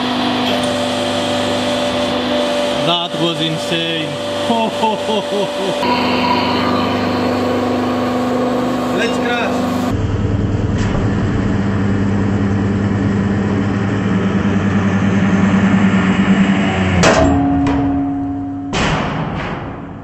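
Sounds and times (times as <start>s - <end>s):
hydraulic press humming: 0.0s - 18.8s.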